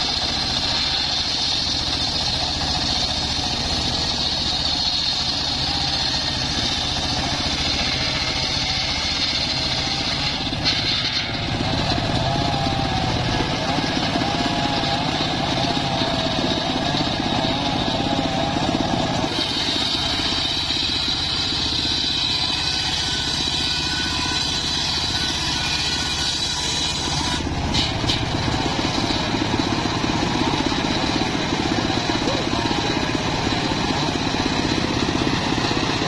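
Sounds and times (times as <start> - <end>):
circular saw ripping timber: 0.0 - 36.0
engine running: 0.0 - 36.0.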